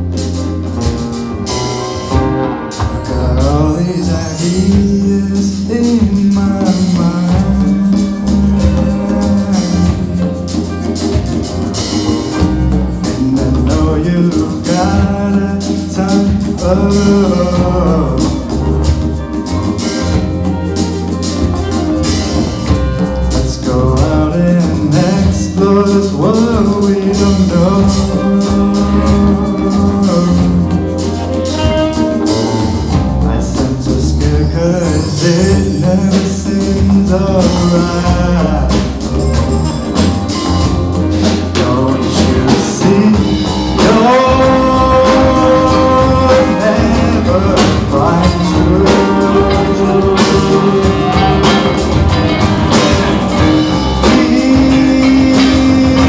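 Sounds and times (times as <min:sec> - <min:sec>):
live band playing: 0:00.0 - 0:56.0
person singing: 0:01.6 - 0:56.0.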